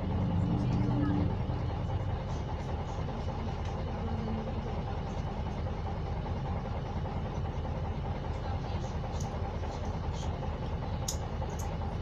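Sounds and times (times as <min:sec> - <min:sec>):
diesel bus engine rumbling: 0:00.0 - 0:12.0.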